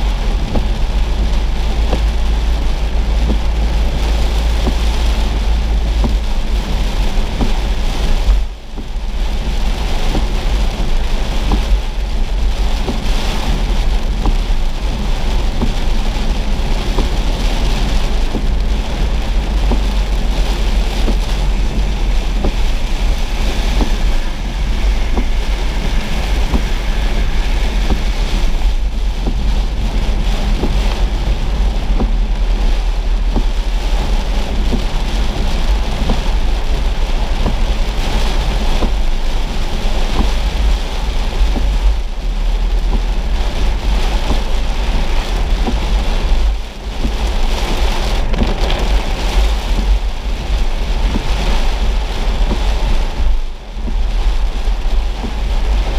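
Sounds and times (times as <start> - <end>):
rain pattering on car windshield: 0.0 - 55.9
road and wind rumble: 0.0 - 55.9.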